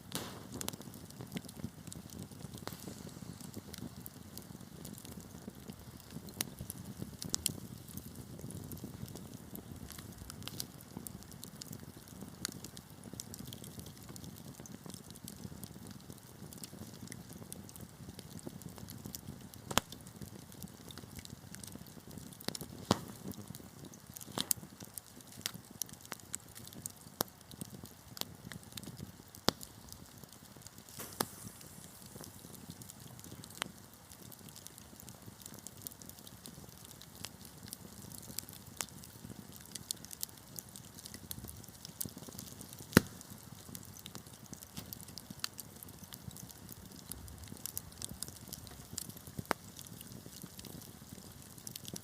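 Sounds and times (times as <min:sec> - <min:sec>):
loud fire pops: 0:00.0 - 0:52.0
low rumble of burning: 0:00.0 - 0:52.0
wood fire crackling: 0:00.0 - 0:52.0.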